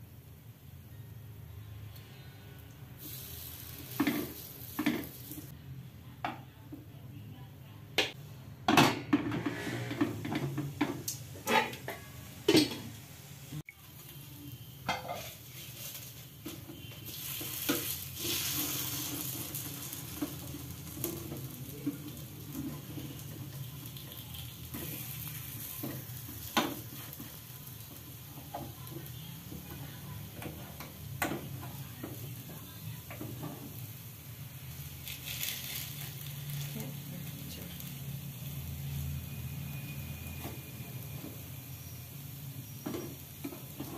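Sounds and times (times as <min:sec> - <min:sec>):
cakes sizzling in a pan: 0:02.9 - 0:05.6, 0:09.5 - 0:43.9.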